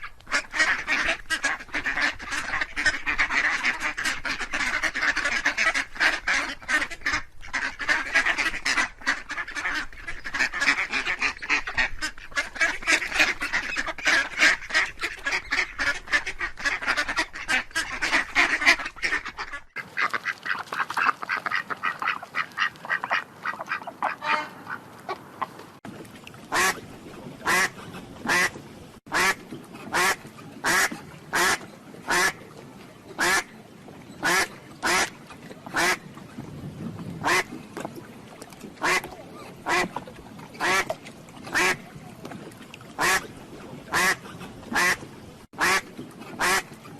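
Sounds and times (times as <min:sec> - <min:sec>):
ducks quacking: 0:00.0 - 0:25.6, 0:26.5 - 0:26.8, 0:27.4 - 0:32.5, 0:33.2 - 0:36.1, 0:37.2 - 0:37.6, 0:38.8 - 0:41.9, 0:42.9 - 0:46.9.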